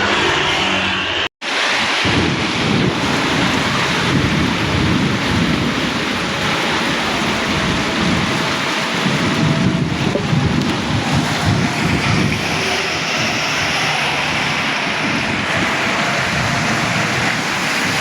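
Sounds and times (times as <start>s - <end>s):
heavy rain hiss: 1.4s - 18.0s.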